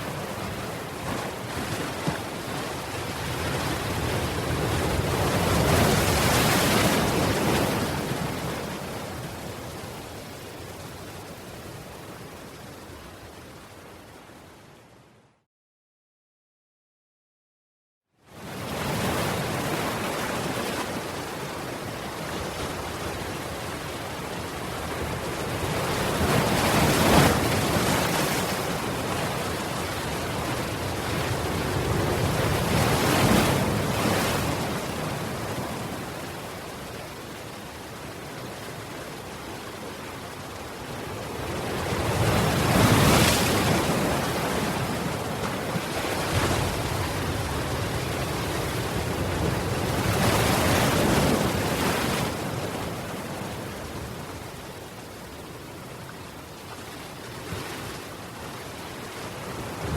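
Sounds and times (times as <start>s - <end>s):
ocean waves breaking on shore: 0.0s - 15.2s, 18.3s - 59.9s.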